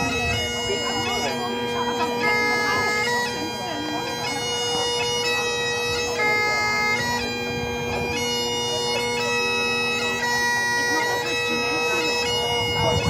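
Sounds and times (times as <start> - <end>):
bagpipe playing: 0.0 - 13.0.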